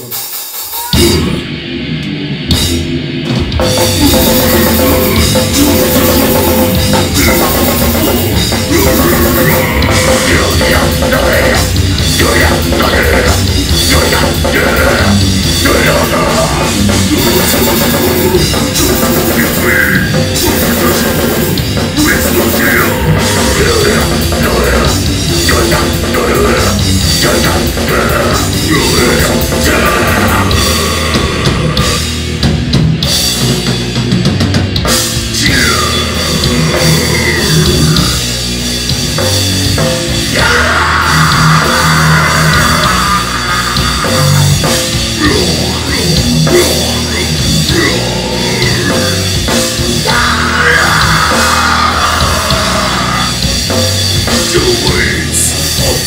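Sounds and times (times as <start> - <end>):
vocals: 0.0 - 1.8, 2.6 - 32.8, 34.8 - 56.0
distorted electric guitars: 0.0 - 56.0
live heavy metal band: 0.0 - 56.0
pounding drum kit: 0.0 - 56.0.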